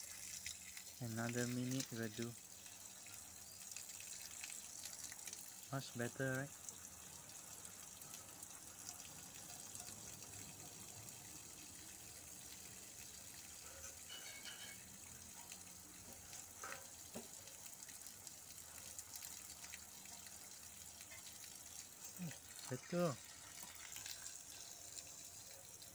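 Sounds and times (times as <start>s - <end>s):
water pouring from hose onto dirt: 0.0s - 25.9s.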